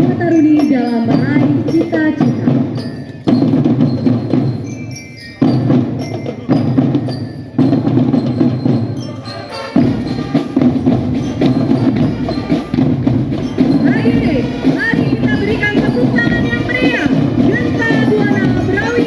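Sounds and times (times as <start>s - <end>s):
marching drums: 0.0s - 19.0s.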